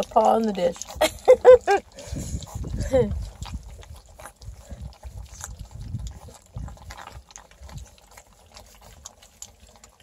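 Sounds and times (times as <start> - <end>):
puppies lapping and chewing: 0.0 - 10.0.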